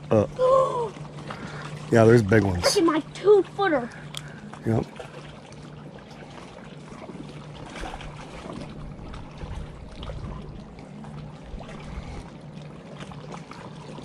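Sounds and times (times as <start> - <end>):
steady low rumble: 0.0 - 13.9
small waves lapping and splashing: 0.0 - 14.0.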